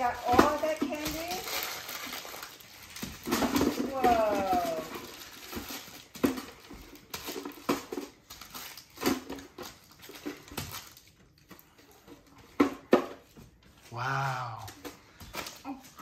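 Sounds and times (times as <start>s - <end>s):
candy wrappers crinkling: 0.0s - 12.6s, 13.2s - 16.0s
candy clattering in plastic pail: 0.0s - 16.0s.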